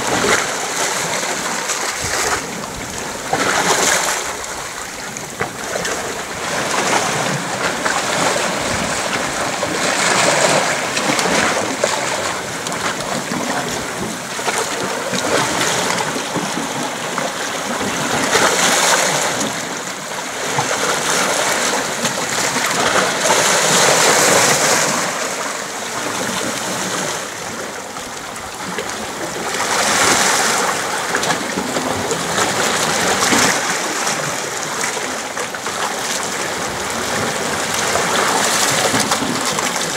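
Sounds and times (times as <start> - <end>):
waves washing against rocks: 0.0 - 39.9.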